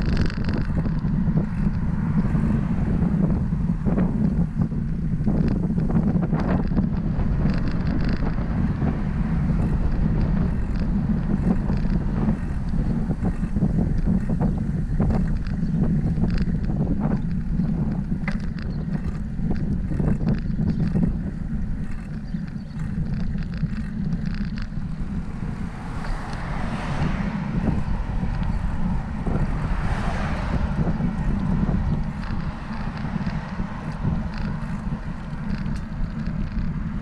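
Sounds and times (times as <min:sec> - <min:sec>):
small rattling clicks: 0:00.0 - 0:37.0
wind buffeting microphone: 0:00.0 - 0:37.0.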